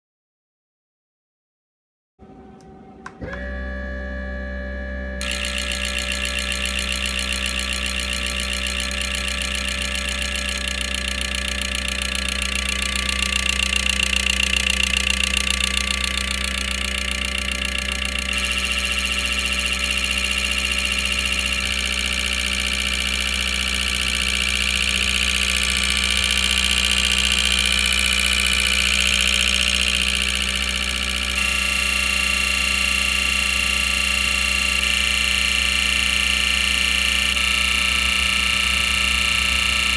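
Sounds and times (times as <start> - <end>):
car engine running: 5.2 - 39.9.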